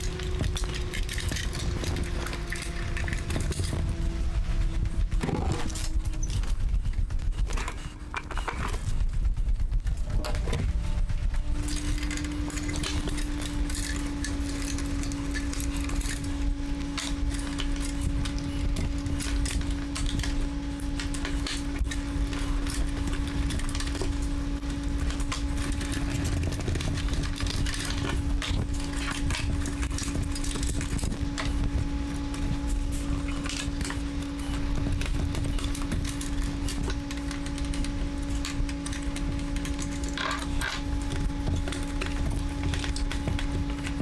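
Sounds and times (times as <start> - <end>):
computer parts clicking and clattering: 0.0 - 4.2, 10.0 - 44.0
steady electrical hum: 0.0 - 44.0.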